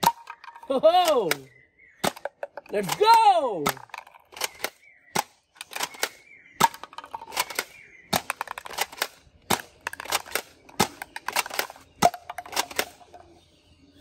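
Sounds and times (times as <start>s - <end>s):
darts clattering on plastic toys: 0.0s - 13.4s
toys falling onto concrete: 0.0s - 13.4s.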